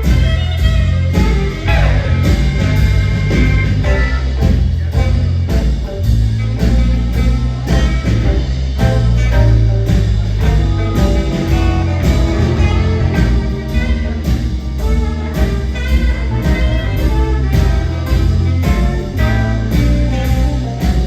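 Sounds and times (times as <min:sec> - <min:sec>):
band playing live: 0:00.0 - 0:21.0
drums keeping a beat: 0:00.0 - 0:21.0.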